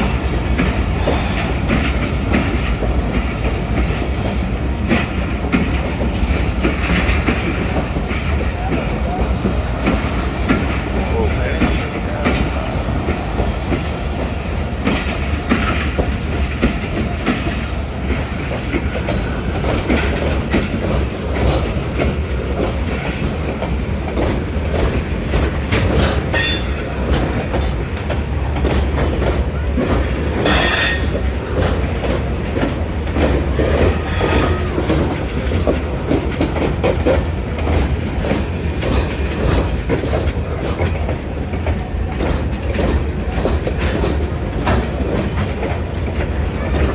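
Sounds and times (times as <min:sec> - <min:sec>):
train rumble on rails: 0:00.0 - 0:46.9
wheels clicking over rail joints: 0:00.0 - 0:46.9.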